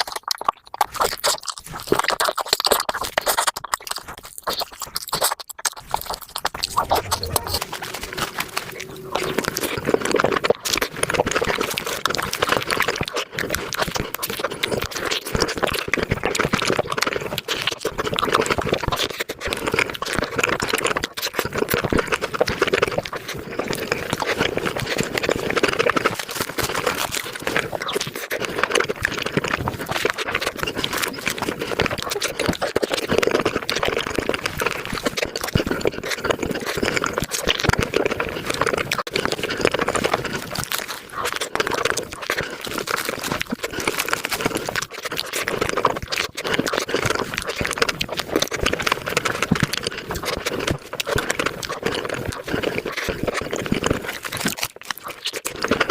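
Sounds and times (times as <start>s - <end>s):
sped-up chewing and mouth sounds: 0.0s - 55.9s.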